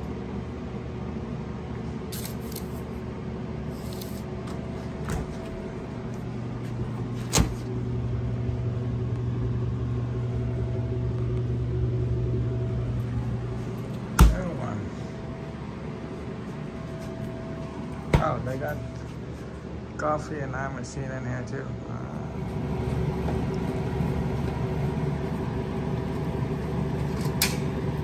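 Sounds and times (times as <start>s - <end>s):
refrigeration equipment humming: 0.0s - 28.0s.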